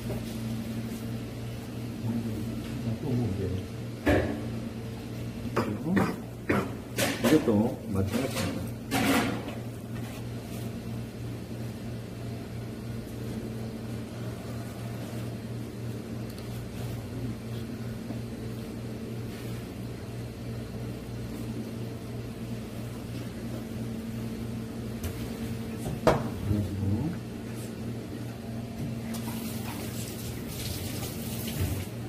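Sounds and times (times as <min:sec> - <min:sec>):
kitchen machine hum: 0:00.0 - 0:32.0.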